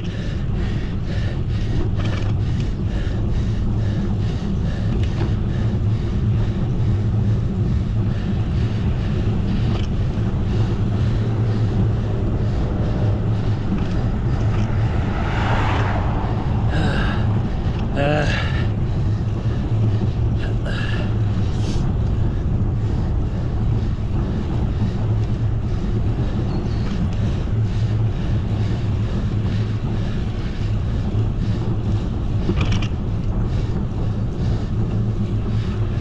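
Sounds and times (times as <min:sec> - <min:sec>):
bicycle road rumble: 0:00.0 - 0:36.0
wind rush on microphone: 0:00.0 - 0:36.0.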